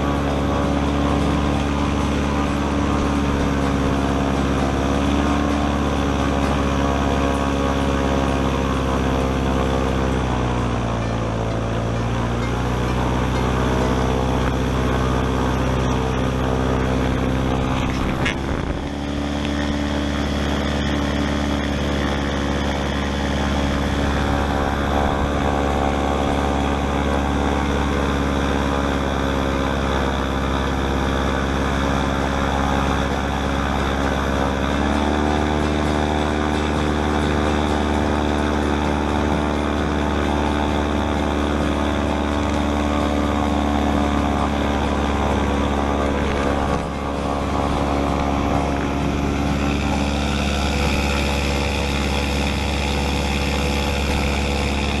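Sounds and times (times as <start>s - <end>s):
airboat engine and propeller drone: 0.0s - 55.0s.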